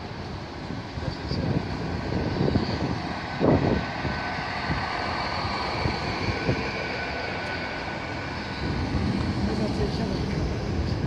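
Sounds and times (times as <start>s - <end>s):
train running hum: 0.0s - 11.0s.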